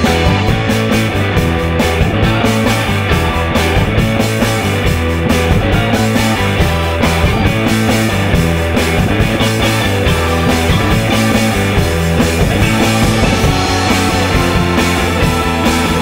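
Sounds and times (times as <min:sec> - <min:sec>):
bass line: 0:00.0 - 0:16.0
drums: 0:00.0 - 0:16.0
electric guitar: 0:00.0 - 0:16.0.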